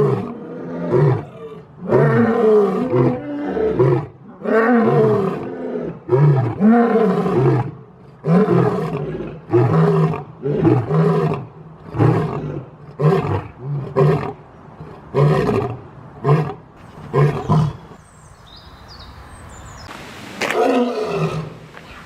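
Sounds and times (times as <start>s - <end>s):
lion roaring and grunting: 0.0s - 18.0s, 20.4s - 21.6s.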